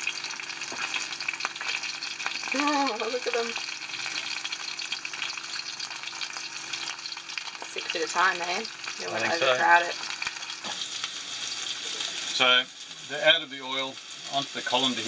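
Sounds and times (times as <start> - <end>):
frying oil sizzle and crackling: 0.0 - 15.0.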